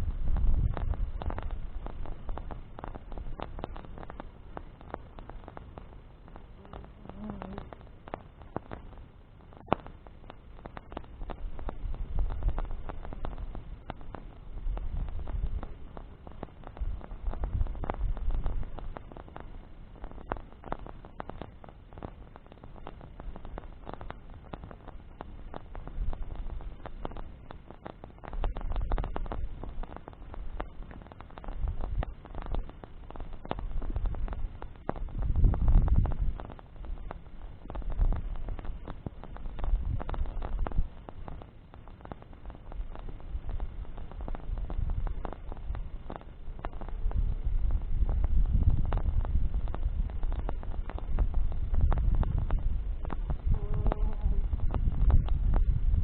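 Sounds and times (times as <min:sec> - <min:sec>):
bonfire crackling and popping: 0:00.0 - 0:56.0
wind rumble on microphone: 0:00.0 - 0:56.0.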